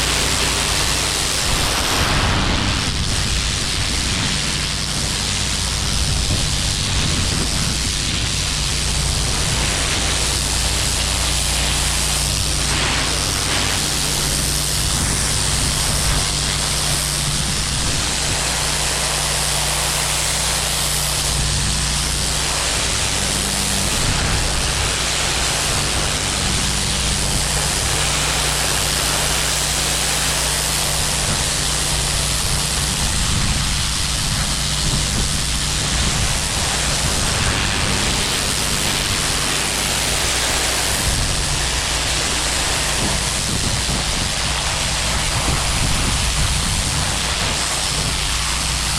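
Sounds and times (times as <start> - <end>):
high-pressure water spraying: 0.0 - 48.9
pressure washer engine hum: 0.0 - 48.9.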